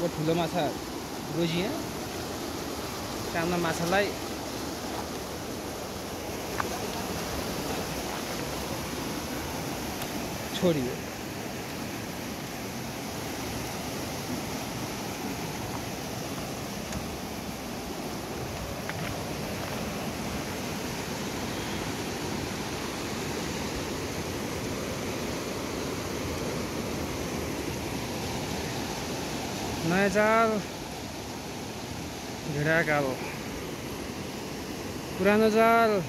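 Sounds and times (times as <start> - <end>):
river rushing over boulders: 0.0 - 36.0.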